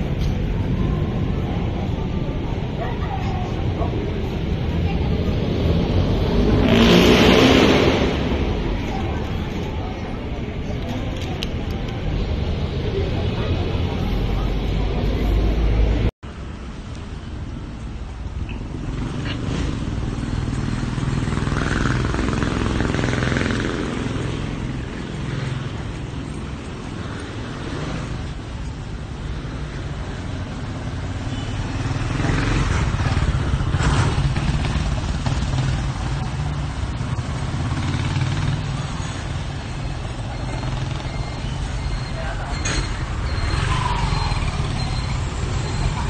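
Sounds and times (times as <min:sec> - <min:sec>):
street noise low rumble: 0:00.0 - 0:46.0.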